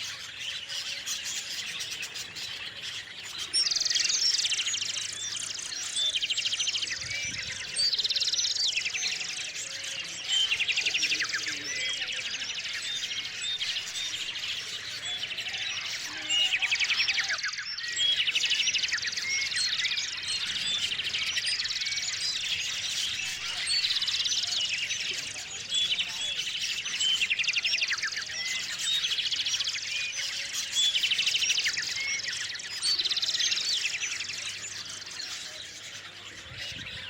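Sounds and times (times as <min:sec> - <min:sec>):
fast trilled birdsong: 0:00.0 - 0:37.0
songbirds chirping: 0:00.0 - 0:37.0.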